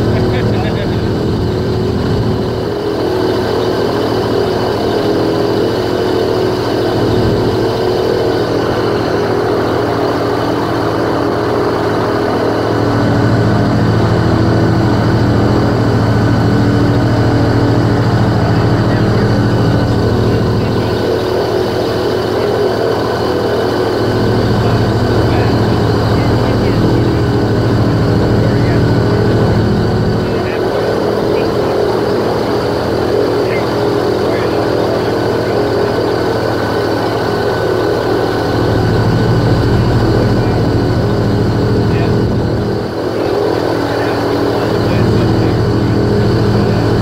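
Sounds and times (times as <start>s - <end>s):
airboat engine drone: 0.0s - 47.0s.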